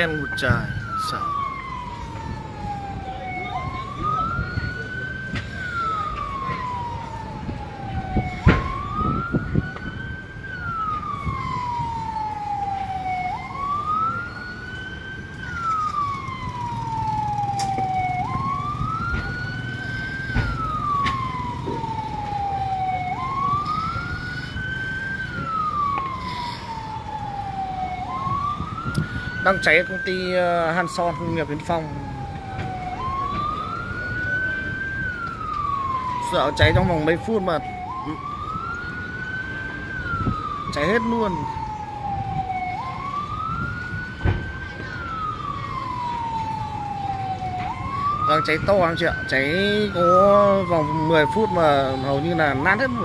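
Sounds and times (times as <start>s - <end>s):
siren wailing: 0.0s - 53.0s.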